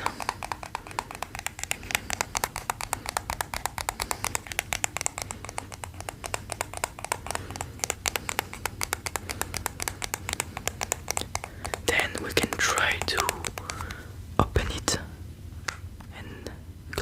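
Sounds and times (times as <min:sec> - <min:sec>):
tapping on headphone case: 0:00.0 - 0:14.0.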